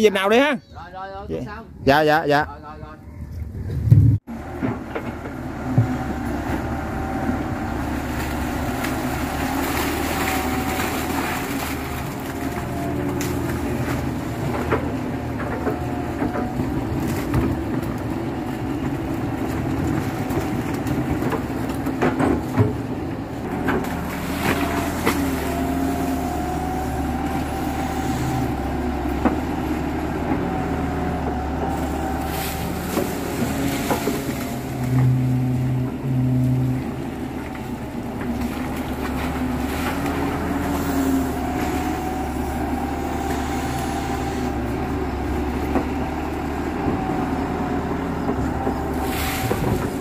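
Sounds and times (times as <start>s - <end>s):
excavator diesel engine running: 4.2s - 50.0s.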